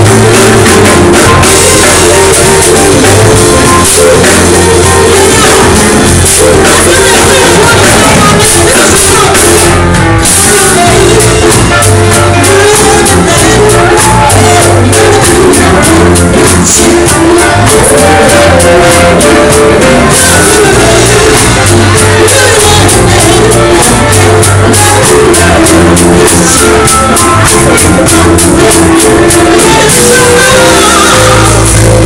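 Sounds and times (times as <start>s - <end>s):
drum kit: 0.0s - 32.0s
electric guitar: 0.0s - 32.0s
keyboard: 0.0s - 32.0s
saxophone: 0.0s - 32.0s
woman singing: 0.0s - 32.0s.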